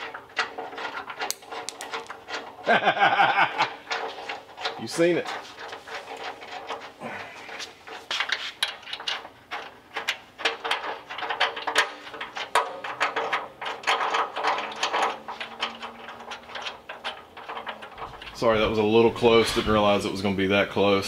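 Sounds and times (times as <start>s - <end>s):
metal clicks knocks and scrapes: 0.0s - 2.7s, 3.5s - 20.0s.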